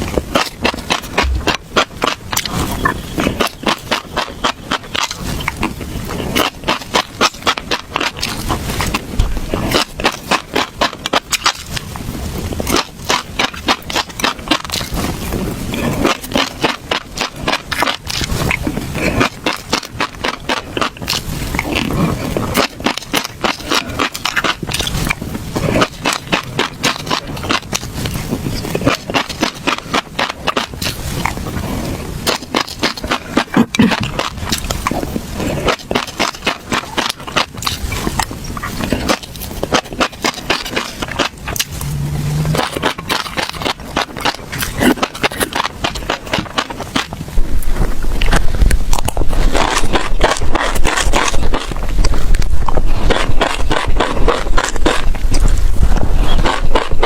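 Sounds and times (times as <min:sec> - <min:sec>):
chewing crisp seeds: 0:00.0 - 0:57.0.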